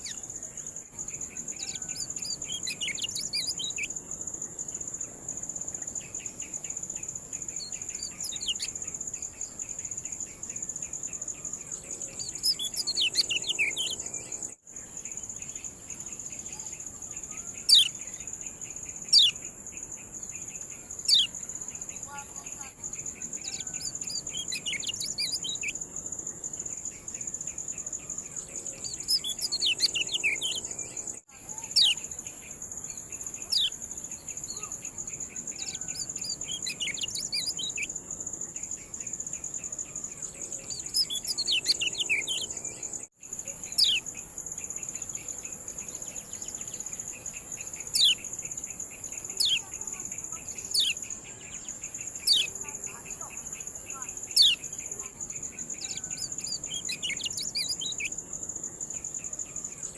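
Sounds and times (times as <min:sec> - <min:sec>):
bird chirping calls: 0:00.0 - 0:04.0, 0:05.7 - 0:14.4, 0:15.2 - 0:25.8, 0:26.9 - 0:37.9, 0:38.6 - 0:58.2.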